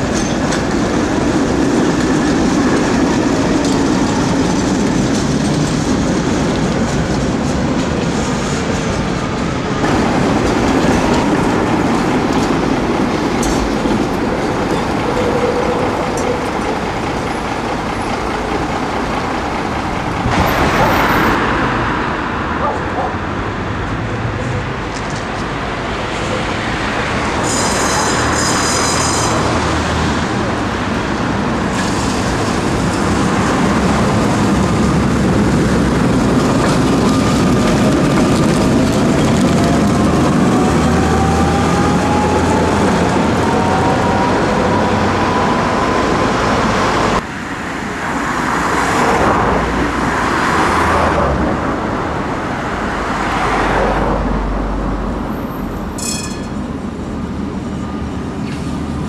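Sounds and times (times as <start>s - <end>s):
road traffic: 0.0s - 59.0s
tram motor whine: 0.0s - 59.0s
tram rumbling over rails: 0.0s - 59.0s.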